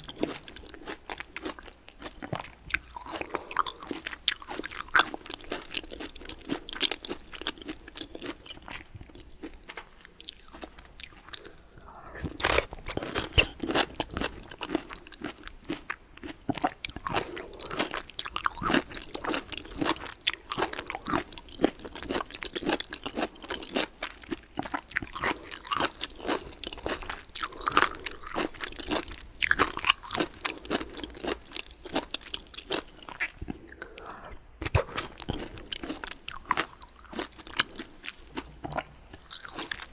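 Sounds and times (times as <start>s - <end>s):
person eating crunchy food: 0.0s - 39.9s.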